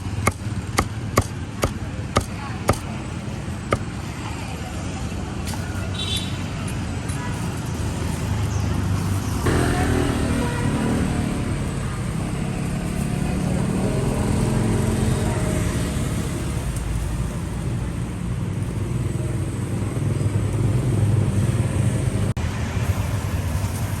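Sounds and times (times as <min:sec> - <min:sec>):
motorbike engines running: 0:00.0 - 0:24.0
street traffic: 0:00.0 - 0:24.0.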